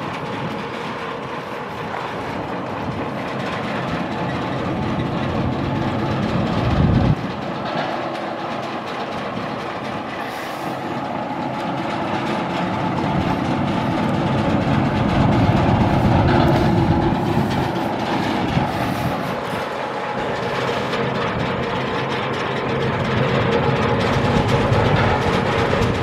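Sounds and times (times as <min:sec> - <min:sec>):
gas engine low chugging: 0:00.0 - 0:26.0.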